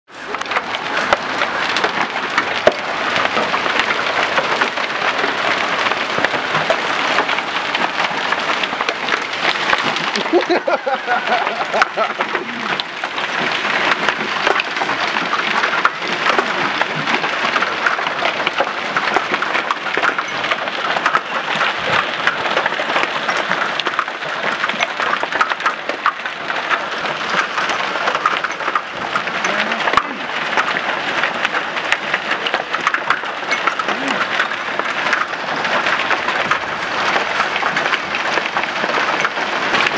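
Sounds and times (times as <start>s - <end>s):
hailstones clattering: 0.1s - 39.9s.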